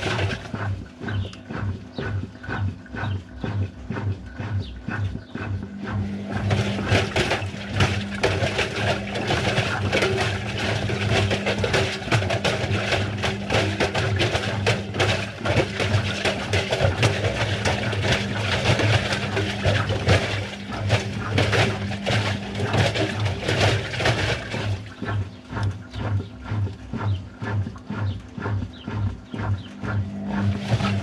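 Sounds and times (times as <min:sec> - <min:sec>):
washing machine motor hum: 0:00.0 - 0:31.0.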